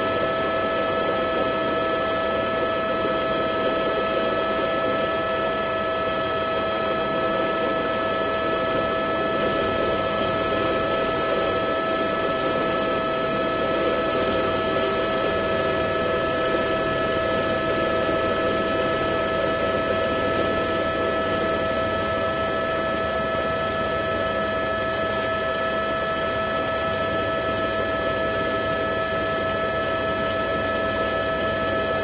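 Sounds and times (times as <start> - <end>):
steady multi-tone hum: 0.0 - 32.0.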